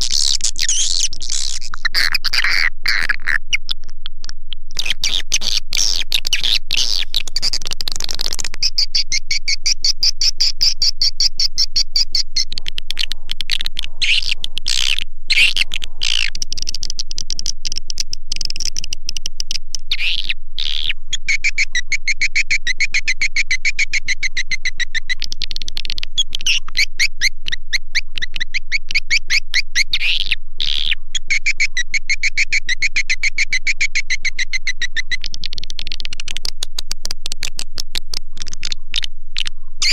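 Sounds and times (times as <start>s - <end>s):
rapid high-pitched bird-like chirps: 0.0s - 39.9s.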